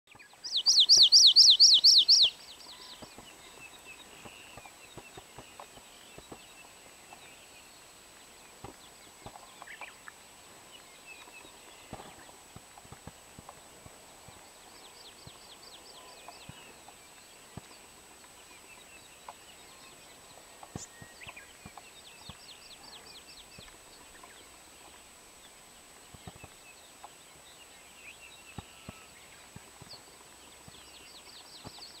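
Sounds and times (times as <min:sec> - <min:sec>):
bird song trill: 0:00.1 - 0:10.1, 0:14.3 - 0:32.0.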